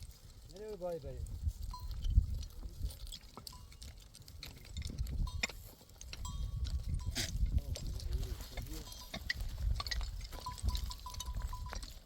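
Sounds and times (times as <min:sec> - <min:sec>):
goat bells clinking: 0:00.0 - 0:12.0.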